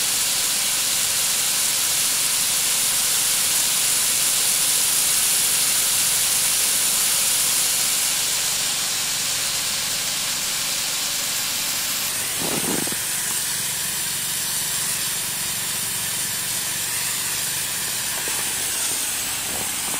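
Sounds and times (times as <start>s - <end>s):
snowmaking gun hissing: 0.0s - 19.9s.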